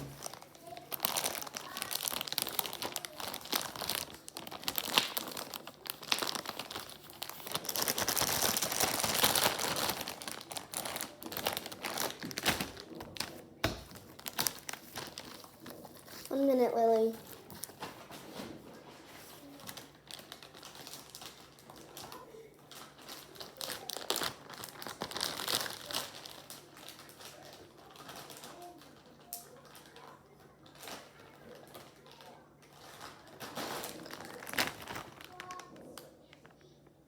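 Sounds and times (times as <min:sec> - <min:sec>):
plastic bag crinkling: 0:00.0 - 0:36.9.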